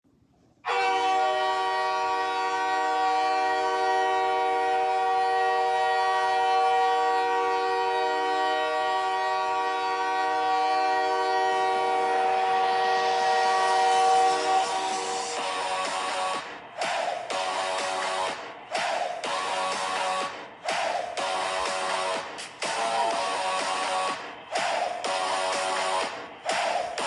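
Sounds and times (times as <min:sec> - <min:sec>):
goal horn chord: 0:00.6 - 0:27.0.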